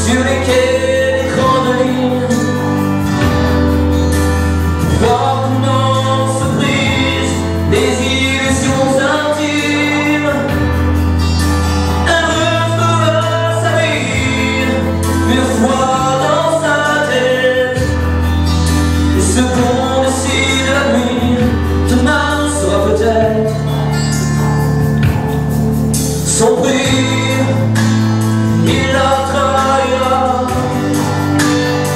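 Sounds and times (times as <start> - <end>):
young man singing into microphone: 0.0 - 3.7, 4.7 - 25.6, 26.2 - 31.9
musical accompaniment with bass: 0.0 - 31.9.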